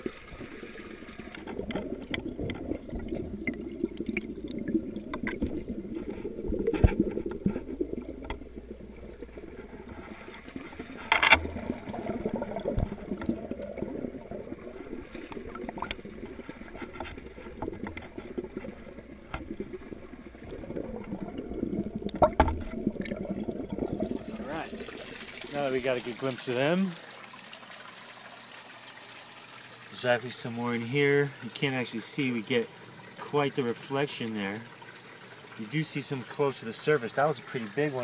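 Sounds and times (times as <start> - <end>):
water trickling and gurgling: 0.0 - 38.0.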